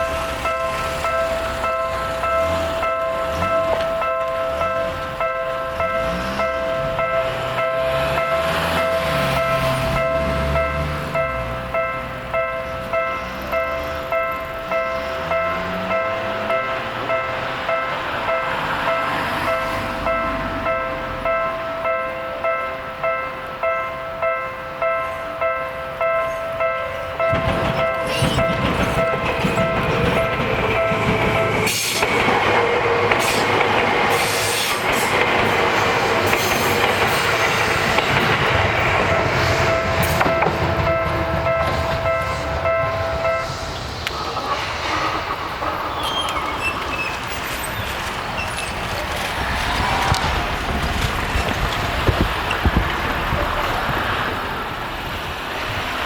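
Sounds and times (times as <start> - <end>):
railroad crossing bell ringing: 0.0 - 50.7
train passing: 0.0 - 56.0.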